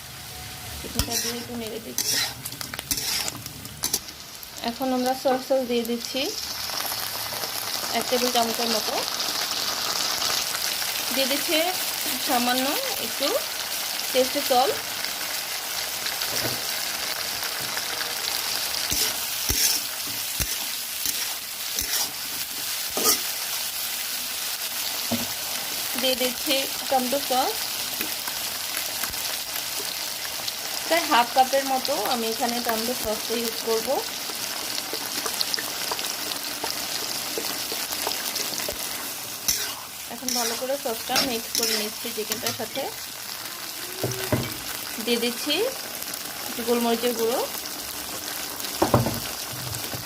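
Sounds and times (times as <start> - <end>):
food sizzling in oil: 0.0 - 50.0.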